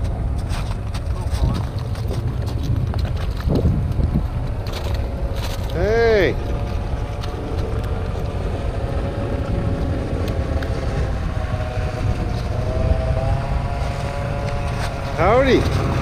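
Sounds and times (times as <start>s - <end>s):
faint wavering motor hum: 0.0s - 16.0s
low rumble: 0.0s - 16.0s.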